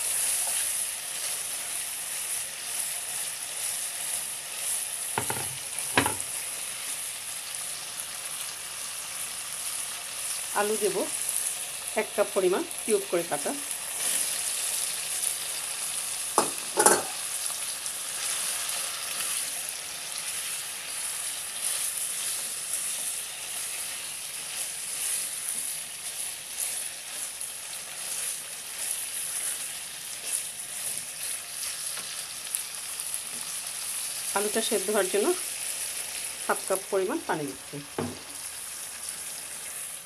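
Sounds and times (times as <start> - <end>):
spatula stirring potatoes: 0.0 - 36.9
oil sizzling in a pan: 0.0 - 40.0.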